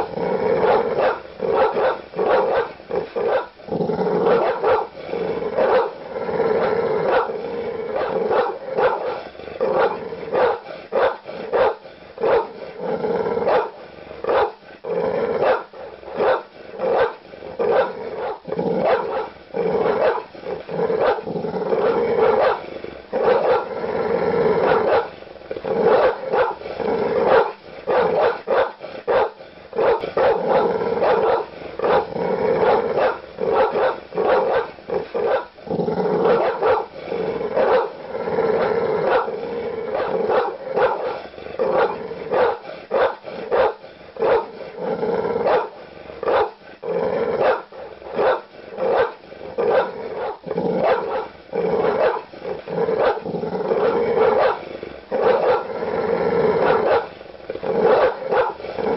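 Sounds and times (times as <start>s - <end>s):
large dog barking: 0.0s - 46.6s, 47.2s - 55.8s, 56.4s - 58.9s.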